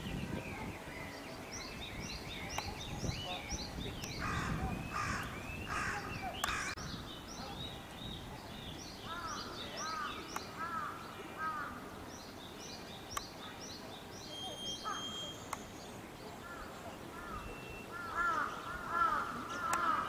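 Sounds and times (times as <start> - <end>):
birds chirping: 0.0 - 20.0
harsh loud bird calls: 0.7 - 20.0.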